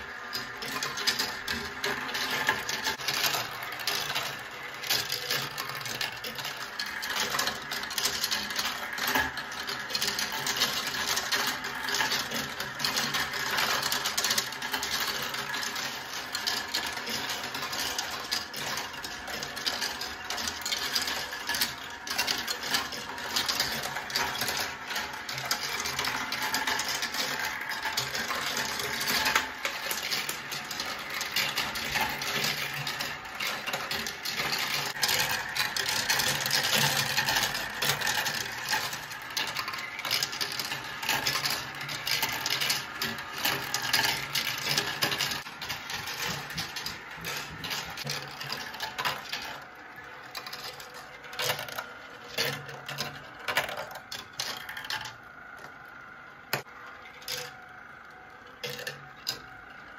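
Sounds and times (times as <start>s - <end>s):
chain lift whirring: 0.0s - 59.9s
marbles clattering on plastic track: 0.0s - 59.9s.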